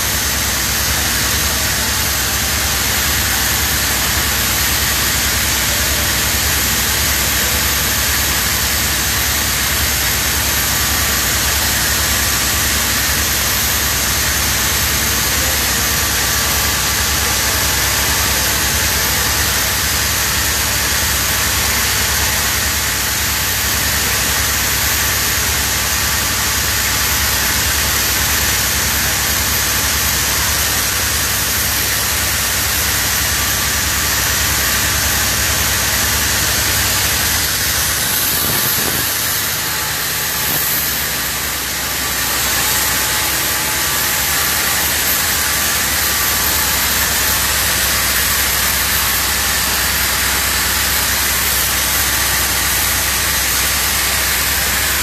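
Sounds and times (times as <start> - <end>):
low machine hum: 0.0 - 50.8
loud steady hiss: 0.0 - 55.0.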